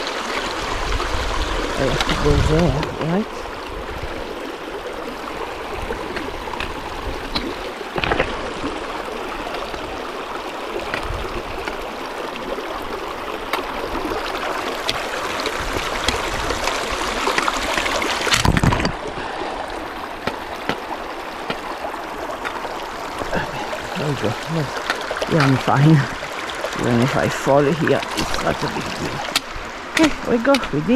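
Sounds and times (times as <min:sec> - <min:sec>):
creek running over rocks: 0:00.0 - 0:30.9.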